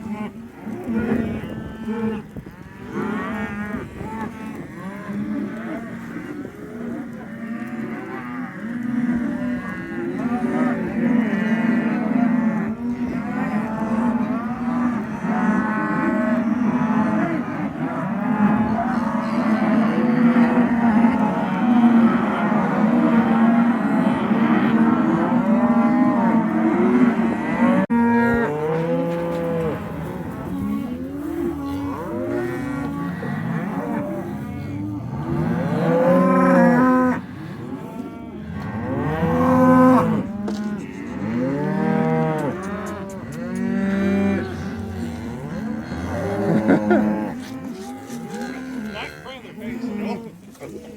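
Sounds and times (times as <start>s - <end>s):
cattle mooing: 0.0s - 50.4s.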